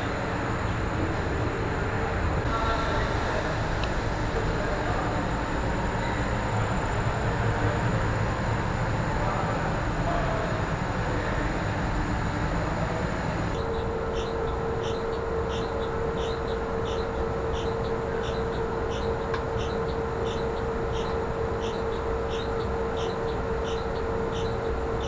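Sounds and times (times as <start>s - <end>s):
machinery rumble and hiss: 0.0s - 25.0s
steady hum: 0.0s - 25.0s.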